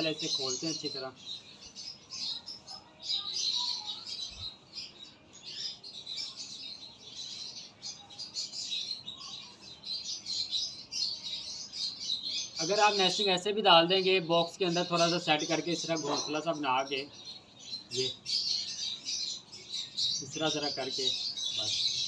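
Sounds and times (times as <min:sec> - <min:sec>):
lovebirds chattering: 0:00.0 - 0:22.0.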